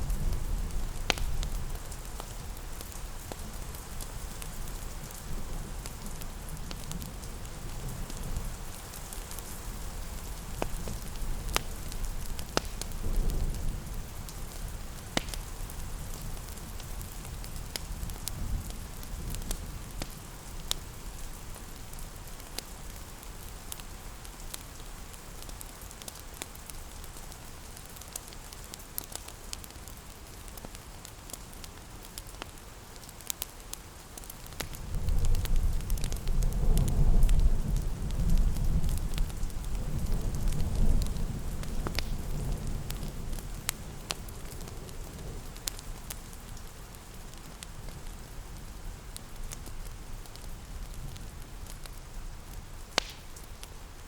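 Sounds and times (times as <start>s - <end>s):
fireplace crackling: 0.0s - 54.0s
rain pattering: 0.0s - 54.0s.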